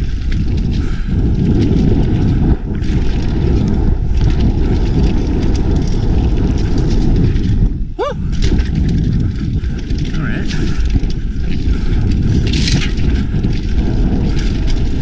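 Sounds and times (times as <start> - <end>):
bike rattling over bumps: 0.0 - 15.0
bike tyres rumbling on dirt: 0.0 - 15.0
wind buffeting microphone: 0.0 - 15.0.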